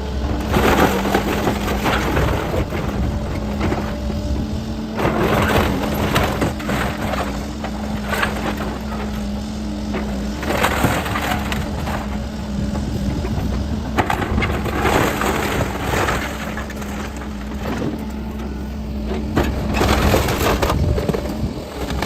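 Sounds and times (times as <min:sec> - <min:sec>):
heavy machine engine hum: 0:00.0 - 0:22.0
wood and siding crunching: 0:00.0 - 0:22.0.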